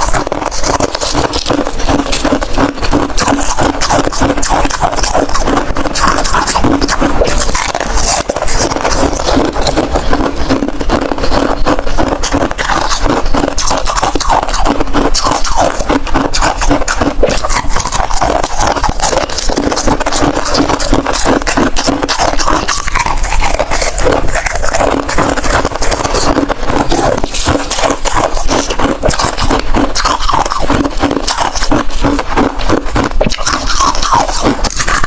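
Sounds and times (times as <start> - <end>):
ice being chewed: 0.0 - 35.0.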